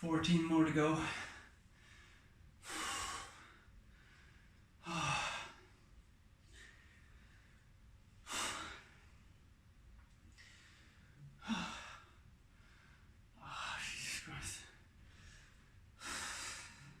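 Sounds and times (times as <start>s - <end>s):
man breathing hard: 1.0s - 9.3s, 10.3s - 17.0s.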